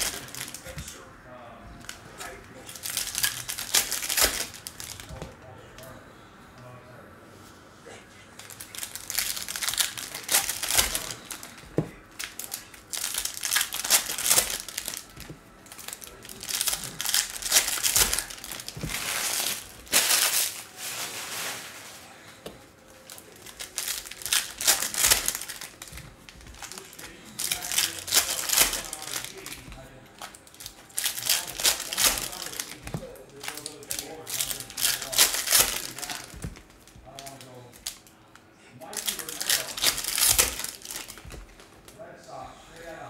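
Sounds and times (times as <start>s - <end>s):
foil wrappers crinkling: 0.0s - 1.1s, 1.7s - 5.4s, 8.4s - 43.0s.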